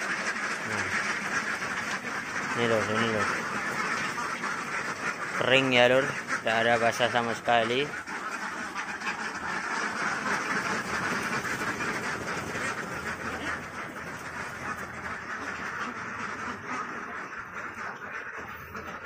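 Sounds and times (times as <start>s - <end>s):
flock of ducks quacking: 0.0s - 19.0s.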